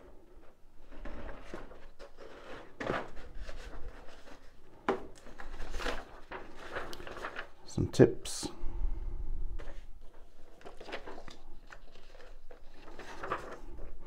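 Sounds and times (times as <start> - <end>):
paper sheets rustling: 0.3 - 7.7, 9.6 - 14.0.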